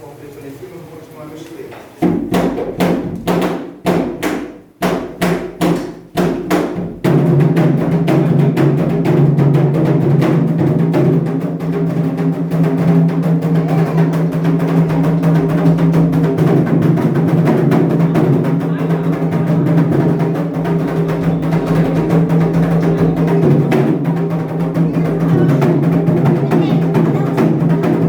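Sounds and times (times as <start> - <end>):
hand drums fast rhythm: 2.0 - 28.0.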